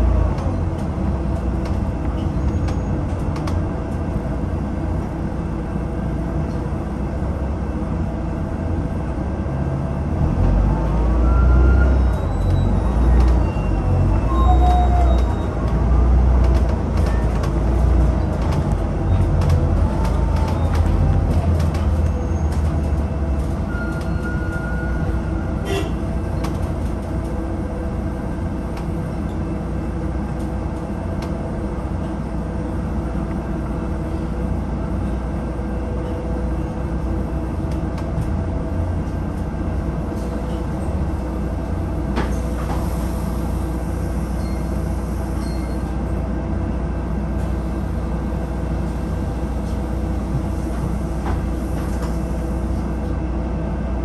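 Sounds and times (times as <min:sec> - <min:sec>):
bus engine drone: 0:00.0 - 0:54.0
road rumble: 0:00.0 - 0:54.0.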